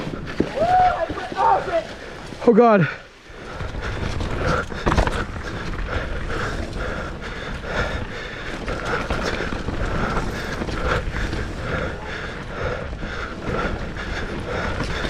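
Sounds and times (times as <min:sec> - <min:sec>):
bike chain and frame rattling: 0:00.0 - 0:15.0
bike tyres rolling on dirt: 0:00.0 - 0:15.0.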